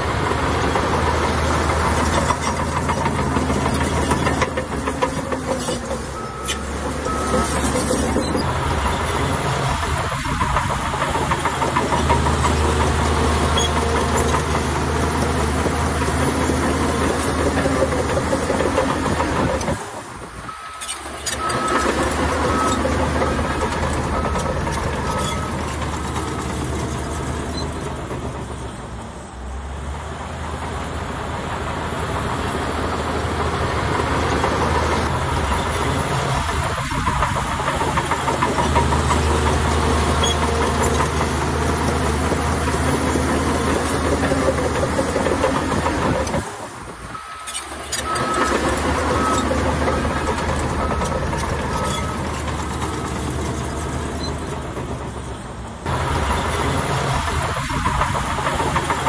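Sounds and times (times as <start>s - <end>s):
heavy diesel machinery under load: 0.0s - 59.0s.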